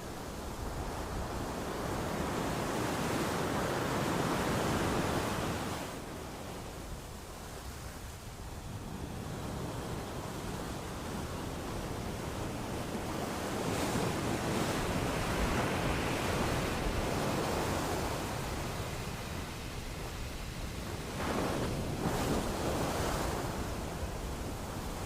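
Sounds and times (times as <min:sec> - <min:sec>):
ocean waves washing on shore: 0:00.0 - 0:25.0.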